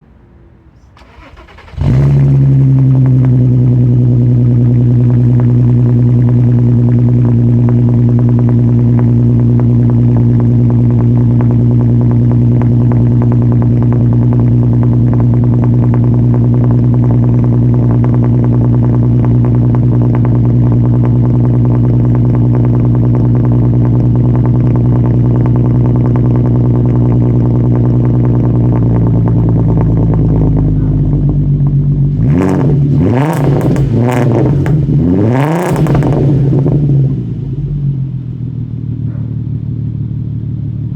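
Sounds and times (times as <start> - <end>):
car engine starting and idling: 0.0 - 40.9.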